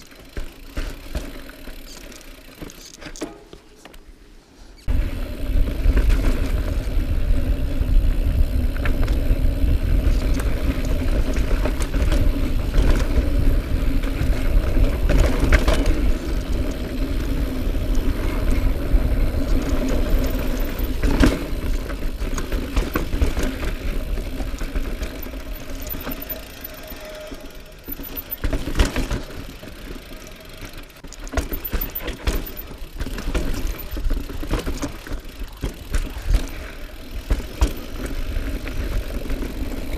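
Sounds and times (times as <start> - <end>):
wheels knocking on rocks: 0.0 - 3.7, 5.8 - 26.9, 27.8 - 39.9.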